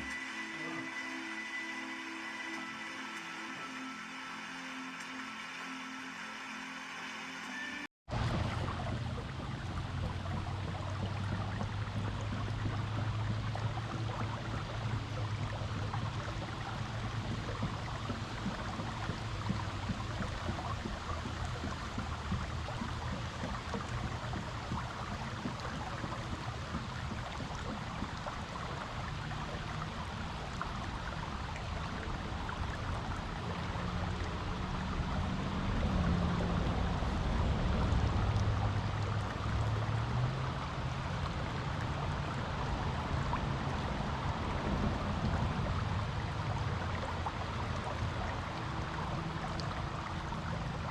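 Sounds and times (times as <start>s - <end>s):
creek water gurgling over rocks: 0.0s - 50.9s.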